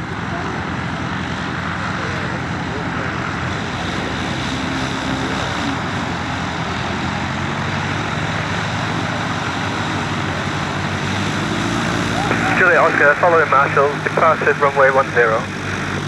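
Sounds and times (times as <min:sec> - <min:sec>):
light aircraft engine and propeller: 0:00.0 - 0:16.0.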